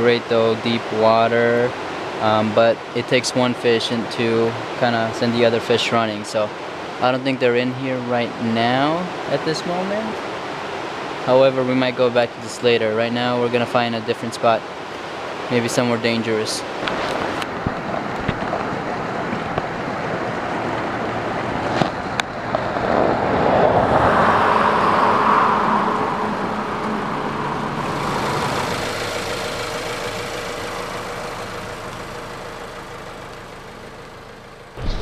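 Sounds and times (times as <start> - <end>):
vehicle tyre and engine noise: 0.0 - 35.0.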